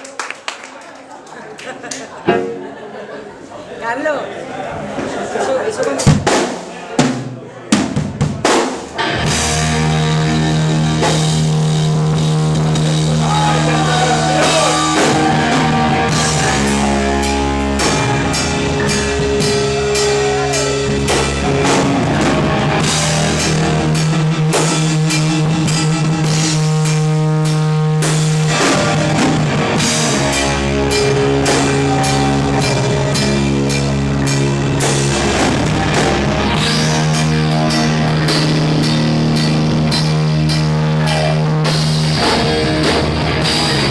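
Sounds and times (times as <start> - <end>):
bending lead guitar line: 2.2 - 3.0, 9.0 - 43.9
rock band playing: 2.3 - 3.0, 6.0 - 43.9.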